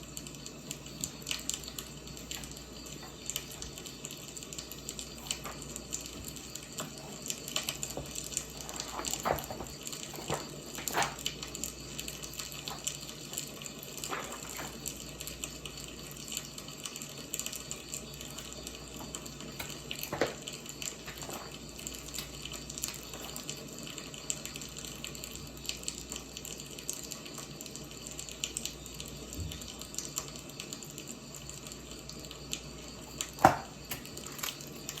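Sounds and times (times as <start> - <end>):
burning logs popping: 0.0 - 35.0
wood fire burning: 0.0 - 35.0.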